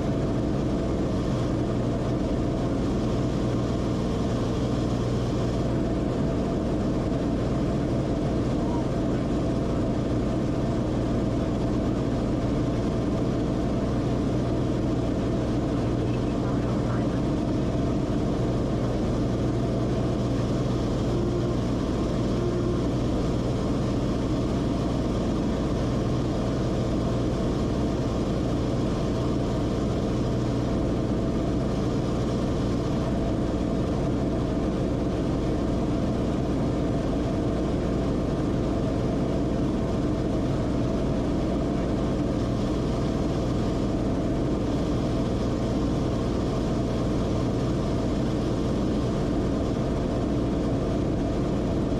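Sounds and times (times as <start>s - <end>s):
aircraft engine and propeller drone: 0.0s - 51.9s.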